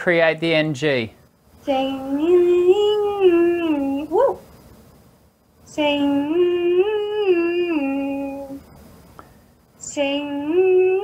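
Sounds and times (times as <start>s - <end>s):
woman singing hum: 1.5s - 4.8s, 5.4s - 11.0s.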